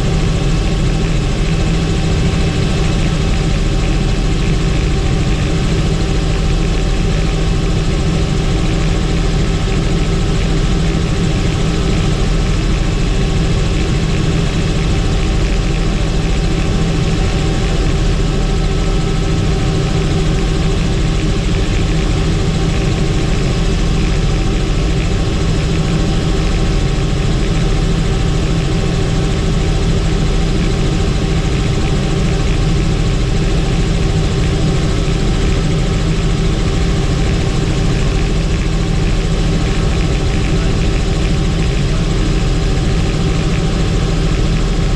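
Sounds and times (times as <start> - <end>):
helicopter engine and rotors: 0.0 - 44.9.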